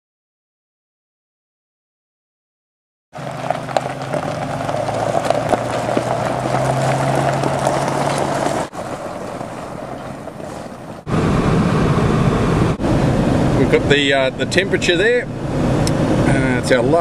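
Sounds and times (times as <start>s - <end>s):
vehicle engine hum: 3.2s - 17.0s.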